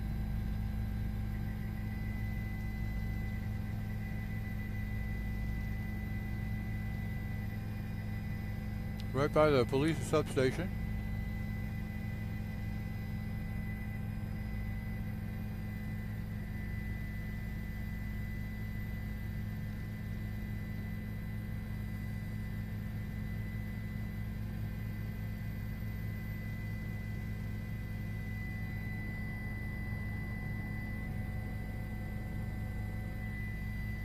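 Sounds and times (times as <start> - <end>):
low drone and hum: 0.0 - 34.0
thin high whine: 1.2 - 34.0.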